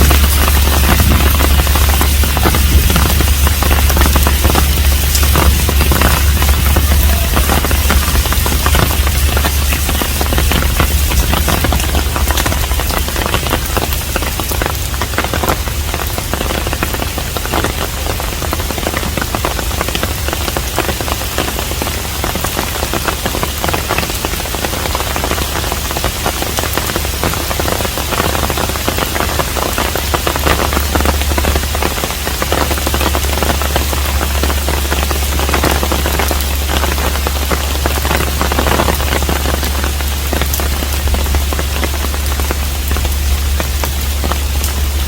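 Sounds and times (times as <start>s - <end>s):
constant low hum: 0.0s - 45.0s
rain falling: 0.0s - 45.0s.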